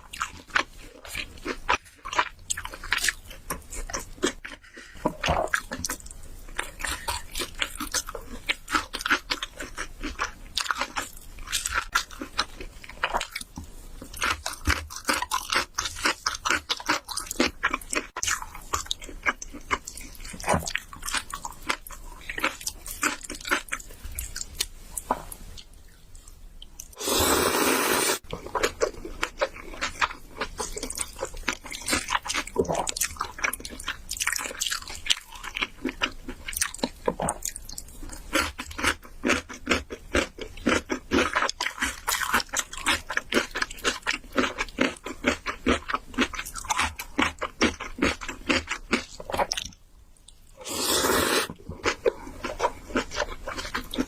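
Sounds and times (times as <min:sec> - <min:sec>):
wet chewing and crunching: 0:00.0 - 0:27.0, 0:28.2 - 0:54.0.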